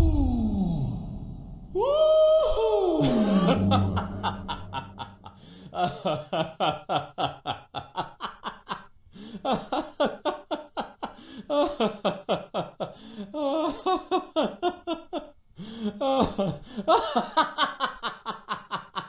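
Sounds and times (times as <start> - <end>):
person laughing hard: 3.0 - 15.3, 15.9 - 19.0.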